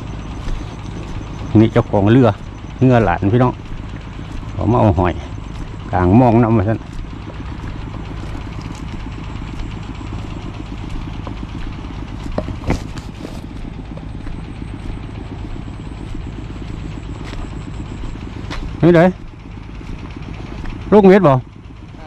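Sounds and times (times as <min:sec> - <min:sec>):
sharp knocks and rattles: 0:00.0 - 0:22.0
small motorcycle engine running: 0:00.0 - 0:22.0.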